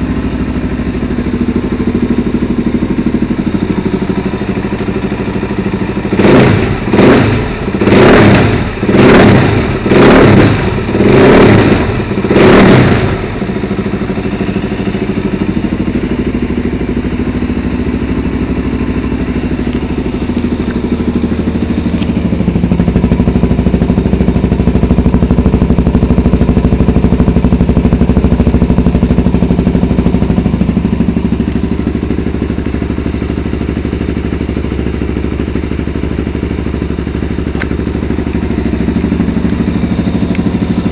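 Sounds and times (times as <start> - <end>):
motorcycle engine revving and idling: 0.0 - 40.9.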